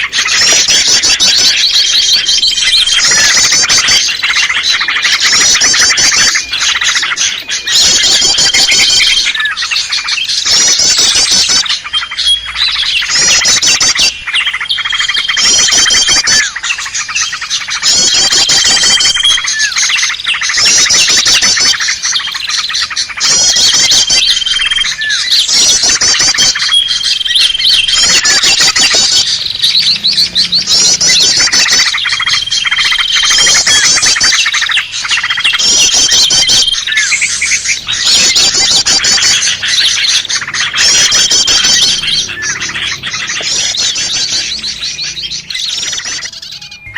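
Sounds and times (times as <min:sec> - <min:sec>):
songbird calls: 0:00.0 - 0:46.9.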